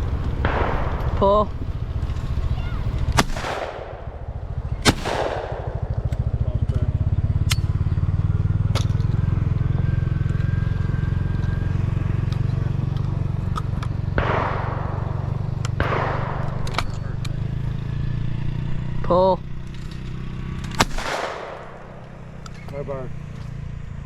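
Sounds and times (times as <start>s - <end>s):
sharp clicks: 0.0s - 8.0s, 10.2s - 18.6s, 19.5s - 23.6s
engine idling: 0.0s - 24.0s.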